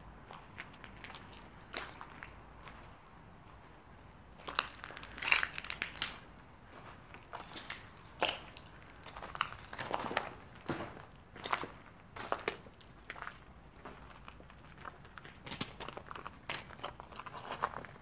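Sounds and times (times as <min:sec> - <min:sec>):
footsteps crunching on rubble: 0:00.2 - 0:03.7, 0:04.4 - 0:18.0.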